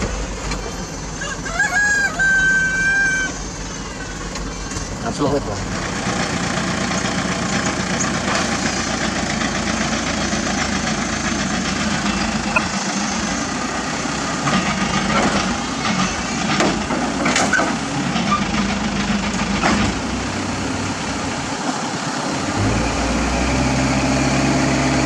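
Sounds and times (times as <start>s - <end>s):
diesel engine running: 0.0s - 1.9s, 2.6s - 25.0s.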